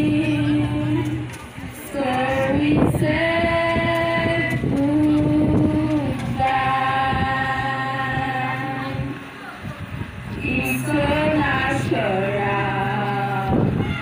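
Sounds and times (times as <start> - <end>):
voices singing long held notes: 0.0 - 14.0.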